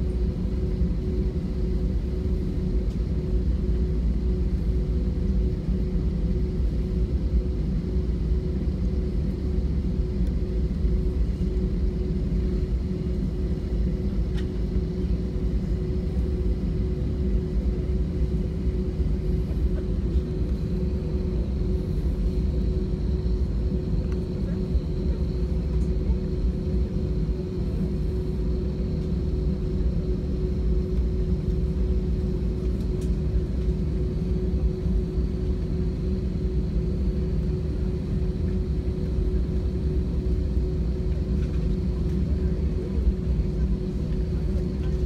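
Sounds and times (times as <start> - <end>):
jet engine rumble in cabin: 0.0 - 45.0.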